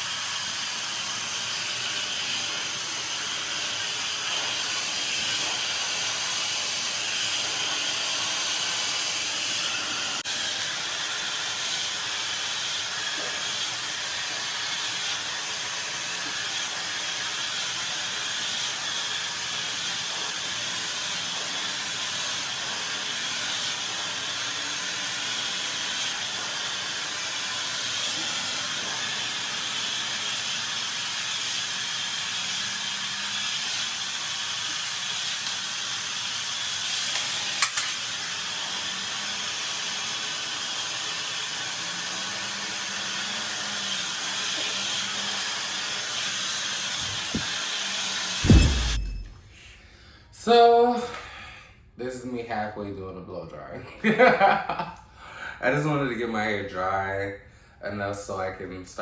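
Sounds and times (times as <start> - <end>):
hair dryer blowing: 0.0 - 49.5.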